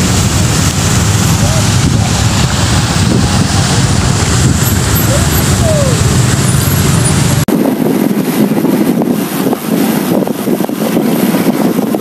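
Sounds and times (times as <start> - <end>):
deep traffic rumble: 0.0 - 12.0
wind buffeting microphone: 0.0 - 12.0.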